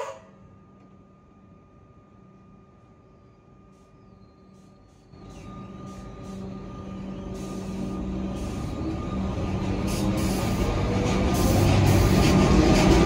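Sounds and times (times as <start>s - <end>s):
electric train rumble: 0.0s - 13.0s.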